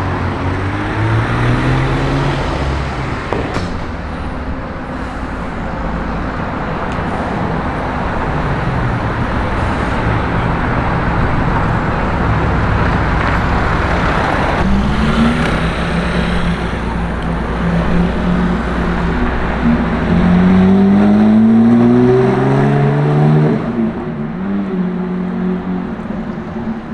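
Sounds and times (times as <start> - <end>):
car engine pulling away: 0.0 - 26.3
city street traffic: 0.0 - 26.9.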